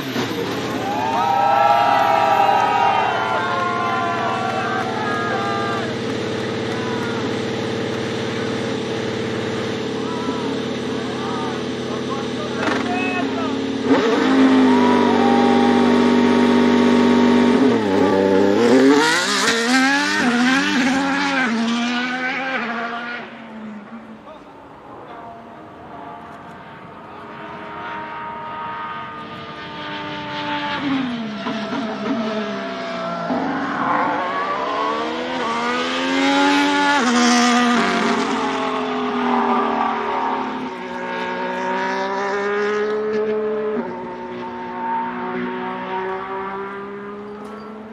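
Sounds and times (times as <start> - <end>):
racing car engine revving: 0.0 - 47.9
quick gear upshifts: 2.1 - 21.7, 23.6 - 47.9.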